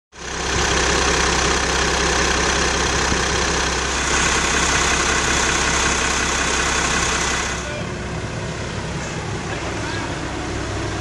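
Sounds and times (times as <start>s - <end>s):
diesel truck engine idling: 0.2s - 11.0s.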